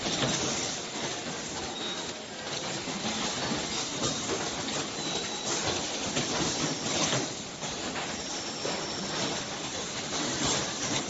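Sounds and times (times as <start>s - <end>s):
machinery clicking and clattering: 0.0s - 11.0s.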